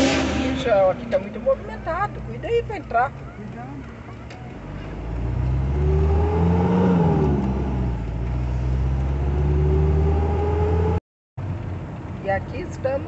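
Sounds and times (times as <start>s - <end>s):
motorhome engine accelerating: 0.0s - 13.0s.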